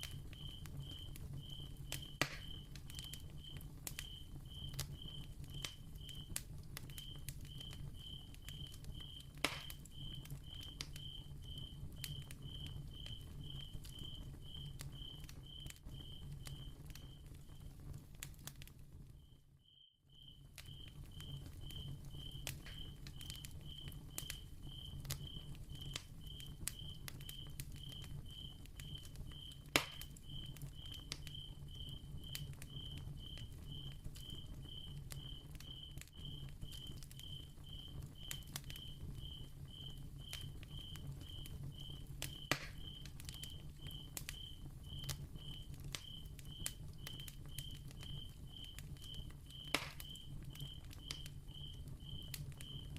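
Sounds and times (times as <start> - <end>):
cricket chirping: 0.0 - 6.3, 6.9 - 17.7, 19.2 - 52.9
candle crackling and popping: 0.0 - 52.9.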